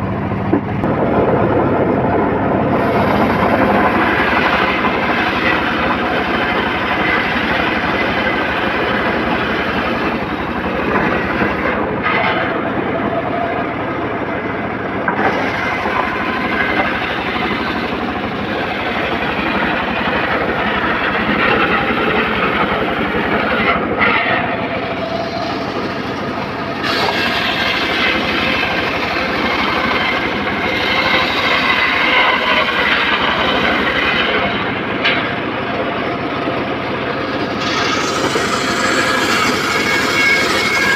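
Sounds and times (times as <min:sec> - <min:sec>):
circular saw cutting timber: 0:00.0 - 0:40.9.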